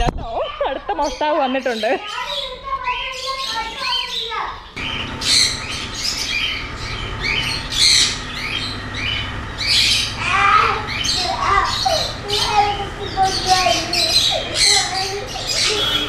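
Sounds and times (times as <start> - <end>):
birds squawking and chattering: 0.4 - 16.0.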